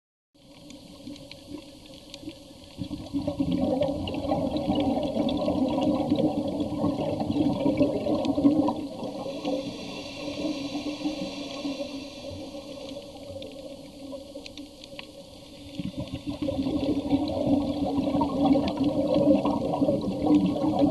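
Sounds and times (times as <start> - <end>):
underwater rushing bubbling water: 0.4 - 20.9.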